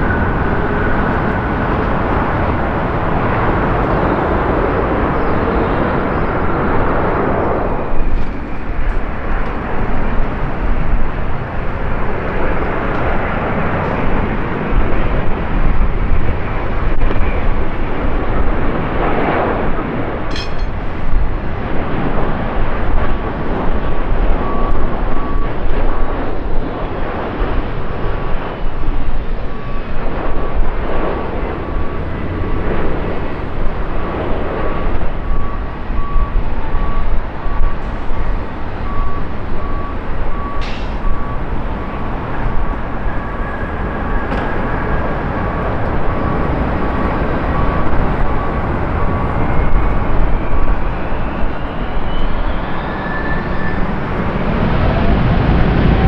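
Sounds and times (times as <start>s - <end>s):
jet engine hum with thin whine: 0.0s - 56.0s
jet engines roaring: 0.0s - 56.0s
wind buffeting microphone: 0.0s - 56.0s.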